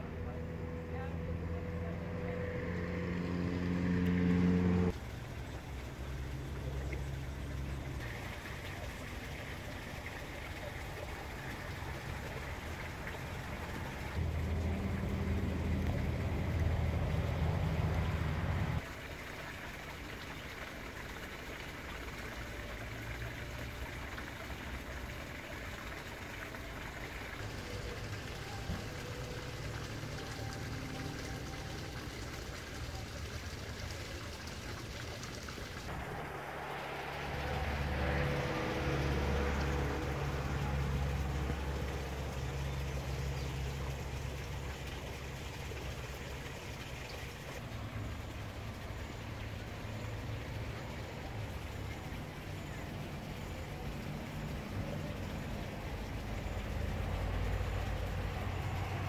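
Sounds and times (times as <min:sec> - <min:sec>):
low motor hum: 0:00.0 - 0:09.8, 0:10.8 - 0:18.8, 0:26.7 - 0:34.1, 0:35.8 - 0:59.0.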